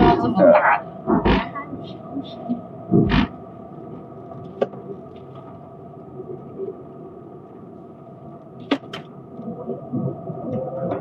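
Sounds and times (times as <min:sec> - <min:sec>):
car cabin road and engine noise: 0:00.0 - 0:11.0.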